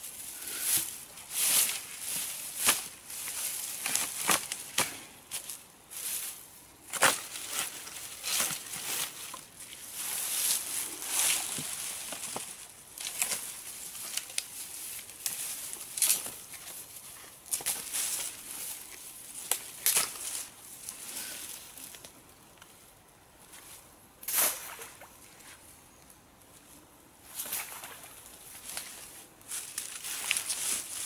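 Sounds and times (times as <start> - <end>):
dry stems and twigs crackling: 0.0 - 22.8, 27.3 - 31.0.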